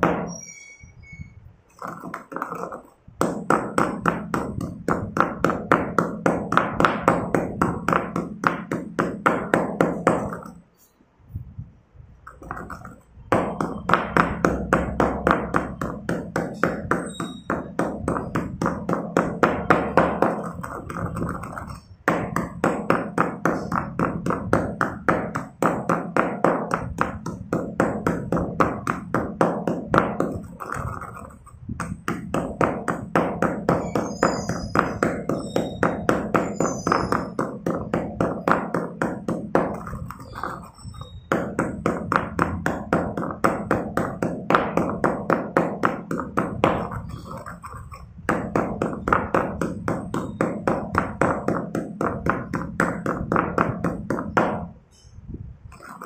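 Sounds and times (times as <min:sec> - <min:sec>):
stone pestle pounding in mortar: 0:00.0 - 0:00.4, 0:01.7 - 0:10.6, 0:12.3 - 0:54.8, 0:55.7 - 0:56.0.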